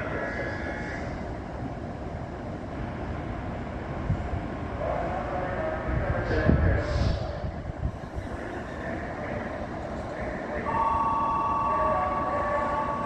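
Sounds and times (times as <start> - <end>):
train high whine: 0.0 - 13.0
train rumbling: 0.0 - 13.0.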